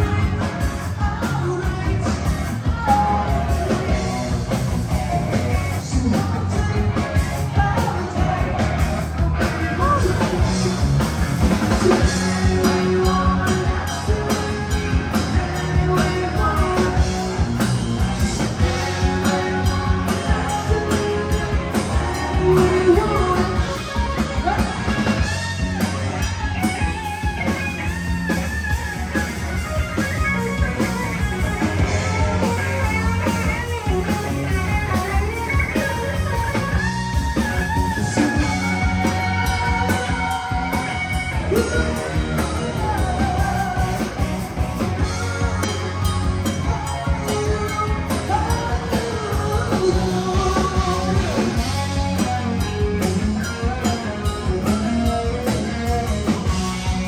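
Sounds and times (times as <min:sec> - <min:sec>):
person singing: 0:00.0 - 0:10.8, 0:11.5 - 0:28.4, 0:29.1 - 0:57.0
rock band playing live: 0:00.0 - 0:57.0.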